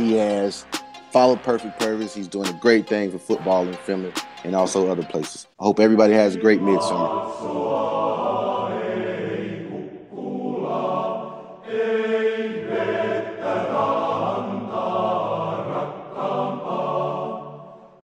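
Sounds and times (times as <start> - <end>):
choir singing with music: 0.0 - 18.0.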